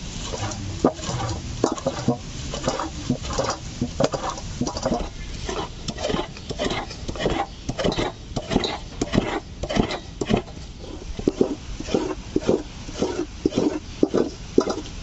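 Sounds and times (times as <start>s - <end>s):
wet scraping on wooden board: 0.2s - 14.9s.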